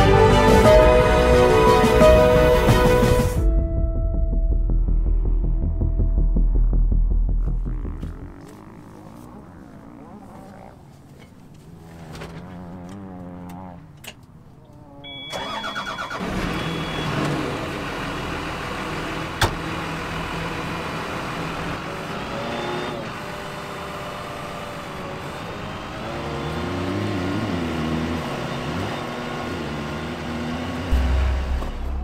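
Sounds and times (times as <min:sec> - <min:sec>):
diesel engine starting and running: 0:00.0 - 0:10.7, 0:15.1 - 0:32.0.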